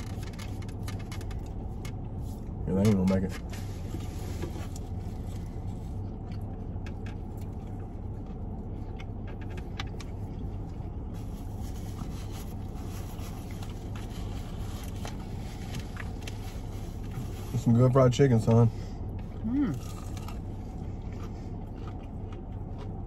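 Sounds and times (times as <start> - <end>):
clicks and rustles of eating: 0.0 - 17.6, 19.1 - 23.0
car cabin hum: 0.0 - 23.0.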